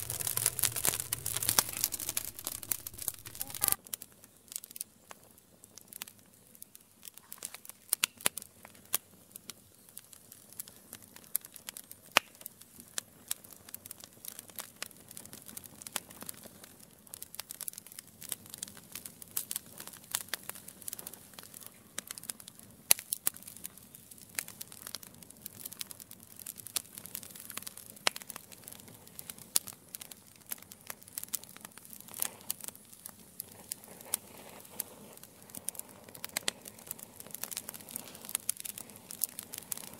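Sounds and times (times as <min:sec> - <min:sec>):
hiss of burning coals: 0:00.0 - 0:39.9
wood fire crackling: 0:00.0 - 0:39.9.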